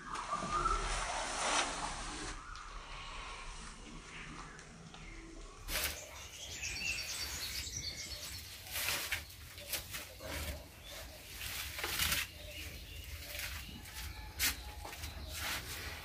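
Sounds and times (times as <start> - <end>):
small birds chirping: 2.3 - 16.0.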